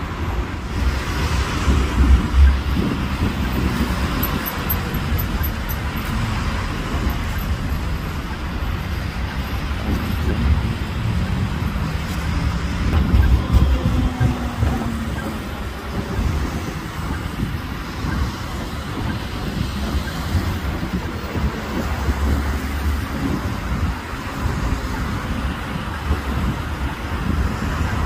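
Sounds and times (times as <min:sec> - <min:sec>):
passing vehicles rumbling: 0:00.0 - 0:28.0.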